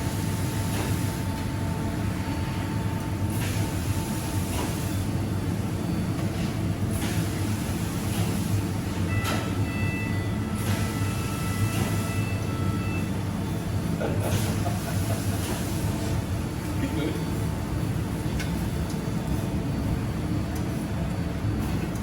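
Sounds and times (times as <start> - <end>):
production machinery low rumble: 0.0 - 22.0.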